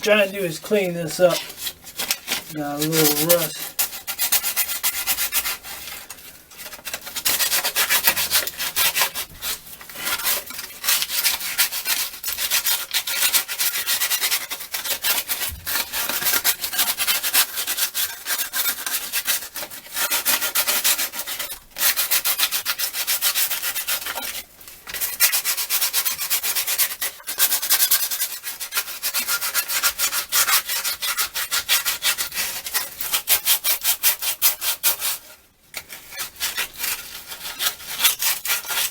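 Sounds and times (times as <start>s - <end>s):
sandpaper scrubbing rusty metal: 0.0s - 38.9s.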